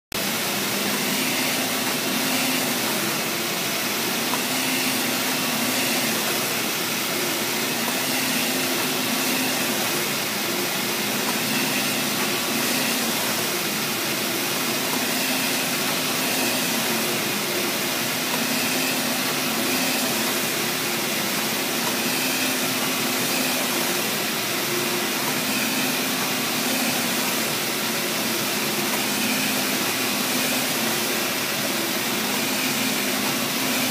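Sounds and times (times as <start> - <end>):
printer whirring hiss: 0.2 - 33.9.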